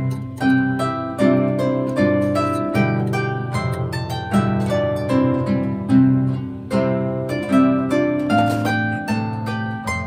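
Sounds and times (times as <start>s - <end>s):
harp music: 0.0s - 10.0s.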